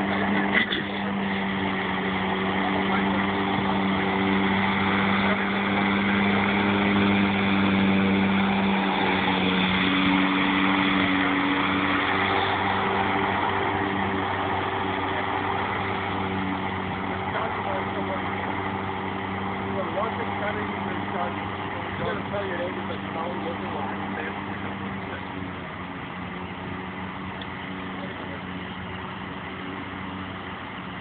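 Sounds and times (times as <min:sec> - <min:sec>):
robotic lawnmower humming: 0:00.0 - 0:31.0.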